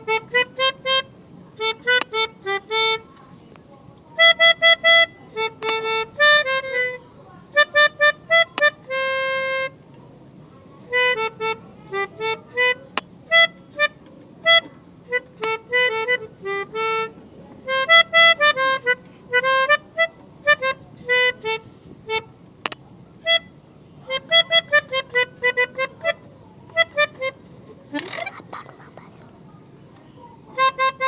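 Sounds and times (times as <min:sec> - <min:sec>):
melodica playing a tune: 0:00.0 - 0:03.2, 0:04.2 - 0:09.8, 0:10.8 - 0:22.4, 0:23.2 - 0:28.6, 0:30.5 - 0:31.0.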